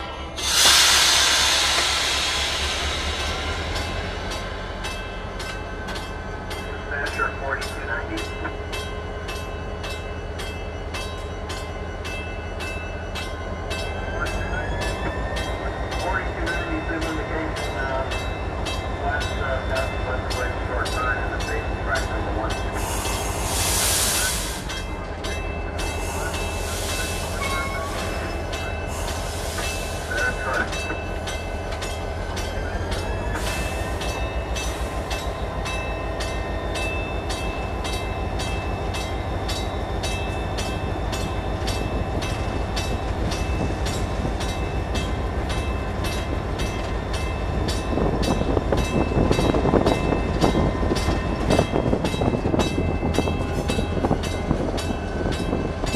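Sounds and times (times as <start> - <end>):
diesel locomotive engine droning: 0.0 - 55.9.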